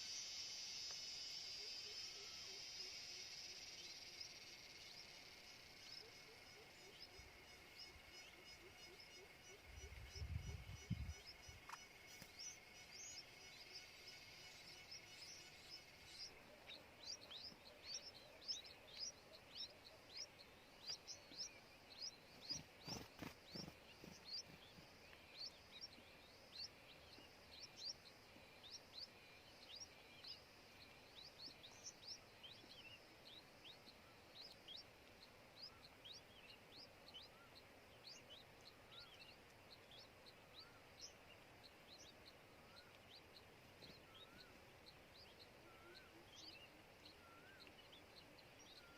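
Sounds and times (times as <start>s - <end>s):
small bird chirping: 0.0s - 48.9s.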